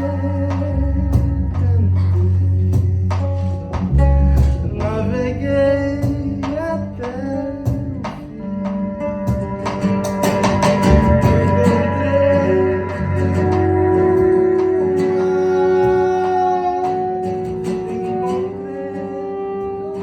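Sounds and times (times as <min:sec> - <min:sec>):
person singing: 0:00.0 - 0:20.0
plucked acoustic guitar: 0:00.0 - 0:20.0.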